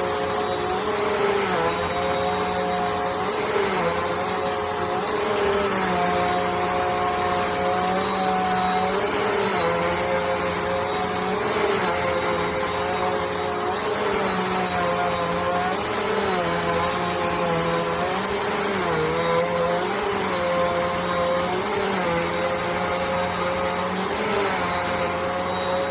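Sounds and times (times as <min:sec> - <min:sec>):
upright vacuum cleaner running: 0:00.0 - 0:25.9.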